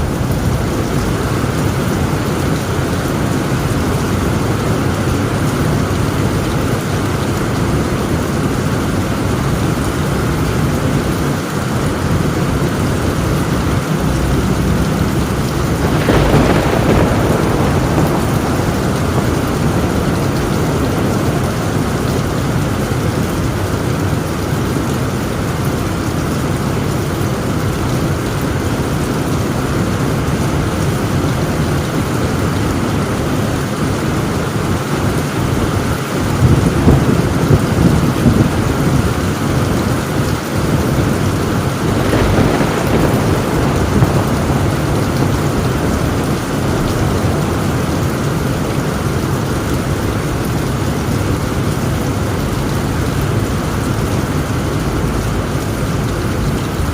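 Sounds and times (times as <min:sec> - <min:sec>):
heavy rain on a tin roof: 0:00.0 - 0:56.9
thunderclap rumbling: 0:00.0 - 0:56.9.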